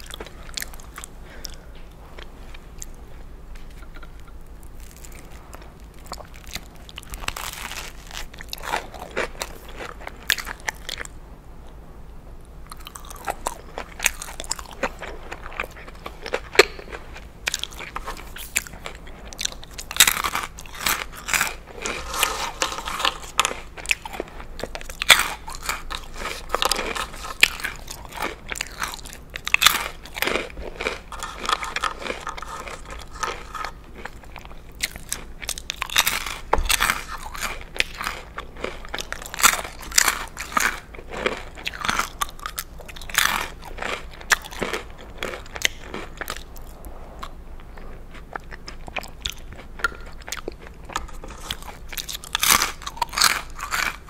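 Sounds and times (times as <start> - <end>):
crisp food crunching: 0.0 - 11.2, 12.7 - 54.0
quiet chewing: 0.0 - 11.8, 12.7 - 54.0.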